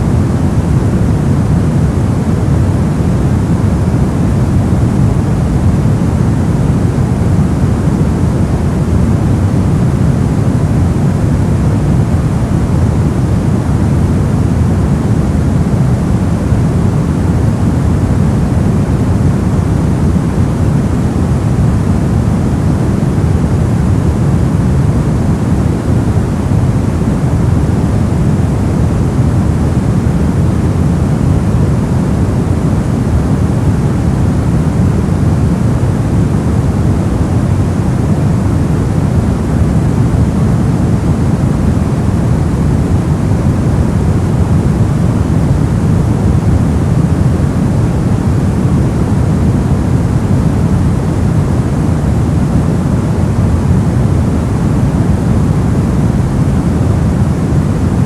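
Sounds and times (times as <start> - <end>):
deep white noise hiss: 0.0 - 58.0.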